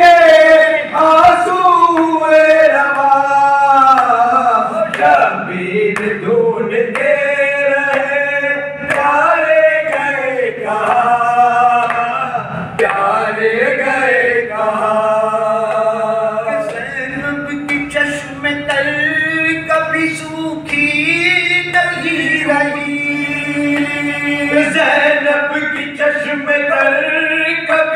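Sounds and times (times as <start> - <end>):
men singing a lament: 0.0 - 27.9.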